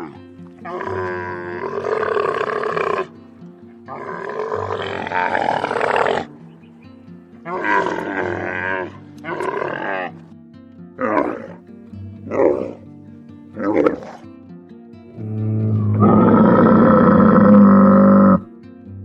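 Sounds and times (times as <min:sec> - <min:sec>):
camel calling: 0:00.0 - 0:14.4, 0:15.1 - 0:18.5
background music: 0:00.0 - 0:19.0.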